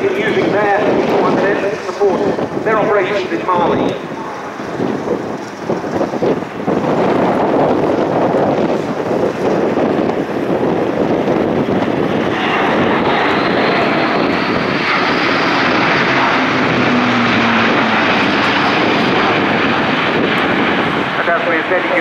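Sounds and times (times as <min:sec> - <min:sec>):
turboprop aircraft passing overhead: 0:00.0 - 0:22.0.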